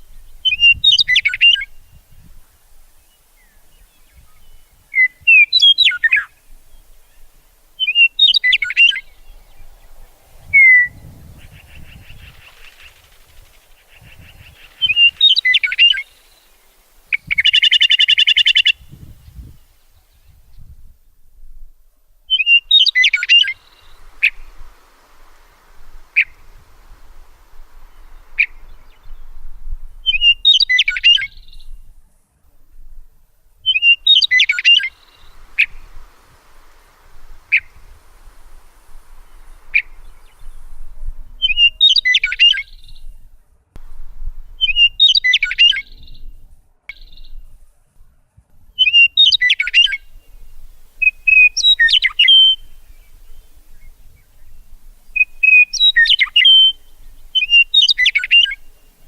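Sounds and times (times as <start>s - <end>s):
songbird chirping: 0.0s - 21.2s, 22.0s - 59.0s.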